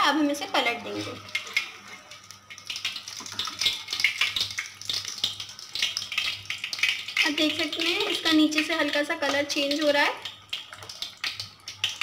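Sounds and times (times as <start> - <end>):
batter frying in hot fat: 0.0 - 12.0.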